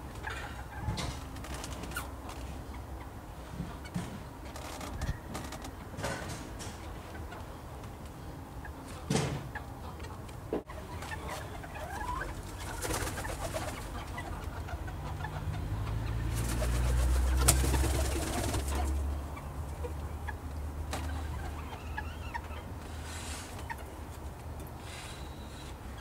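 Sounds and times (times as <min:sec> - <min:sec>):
chickens calling and chirping: 0:00.0 - 0:26.0.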